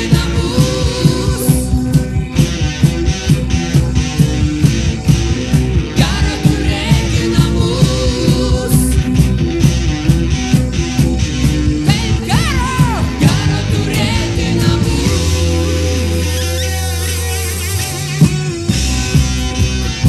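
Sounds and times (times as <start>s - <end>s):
bass guitar: 0.0s - 20.0s
drums steady beat: 0.0s - 20.0s
keyboards: 0.0s - 20.0s.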